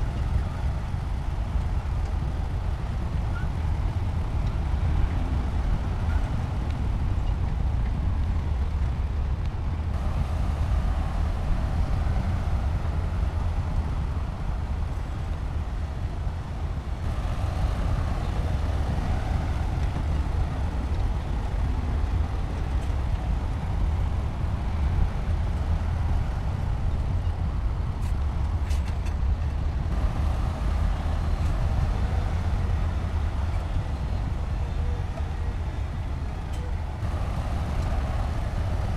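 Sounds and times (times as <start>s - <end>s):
heavy diesel engine rumbling: 0.0s - 38.9s.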